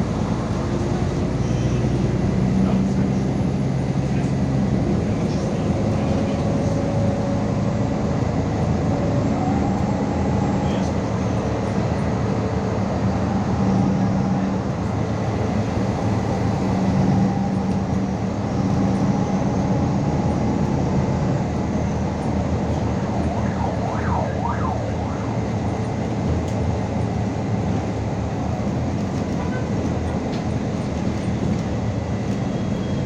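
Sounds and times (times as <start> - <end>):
bus engine drone: 0.0 - 33.0
road noise: 0.0 - 33.0.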